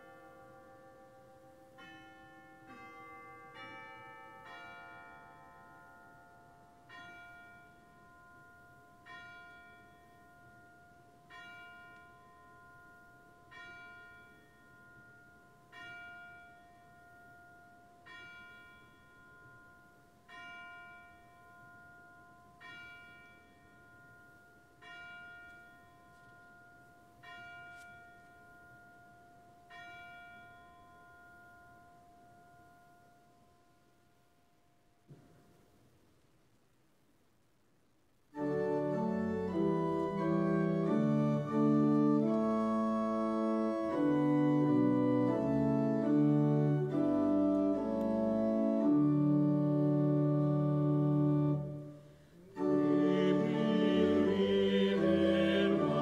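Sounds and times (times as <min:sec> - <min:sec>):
church bell chime tune: 0:00.0 - 0:34.6, 0:38.4 - 0:56.0.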